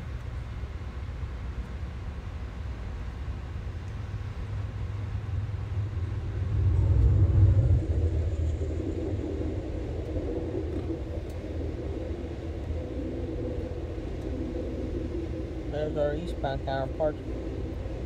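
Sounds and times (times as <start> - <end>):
passenger train rumbling on rails: 0.0 - 18.0.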